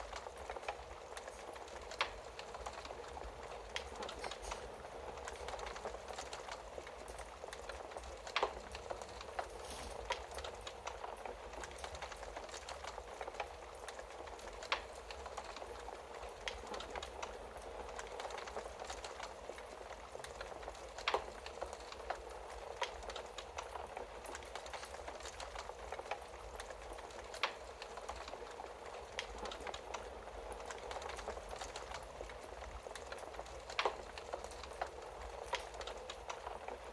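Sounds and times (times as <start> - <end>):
soft hiss: 0.0 - 36.9
wood fire crackling: 0.0 - 36.9.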